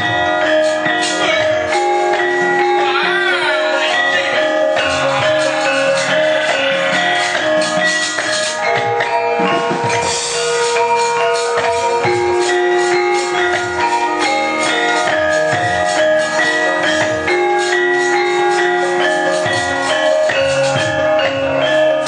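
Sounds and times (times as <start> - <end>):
gamelan ensemble playing: 0.0 - 22.0.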